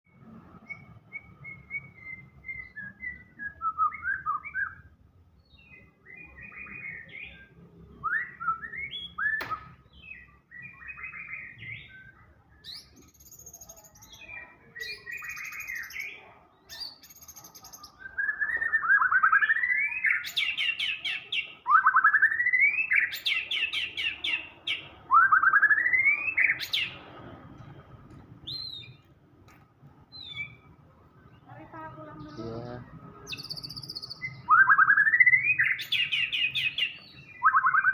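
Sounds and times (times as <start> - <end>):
songbird singing whistles: 0.6 - 27.0, 28.4 - 29.0, 30.1 - 30.7, 33.3 - 37.9.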